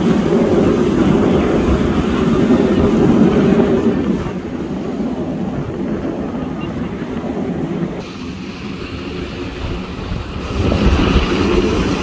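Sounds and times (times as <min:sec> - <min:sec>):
fighter jet flying past: 0:00.0 - 0:12.0.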